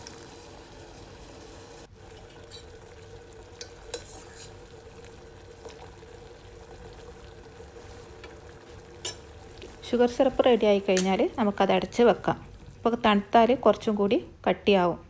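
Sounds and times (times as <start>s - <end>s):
syrup bubbling in a pan: 0.0s - 13.8s
faint steady hum: 0.0s - 15.0s.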